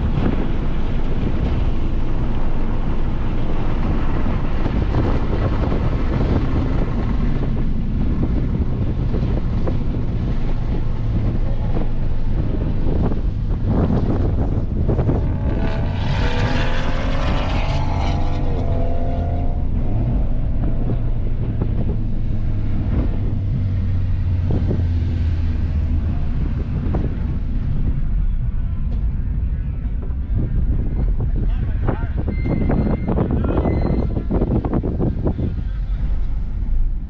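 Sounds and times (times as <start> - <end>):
car engine: 0.0 - 37.0
wind buffeting microphone: 0.0 - 37.0.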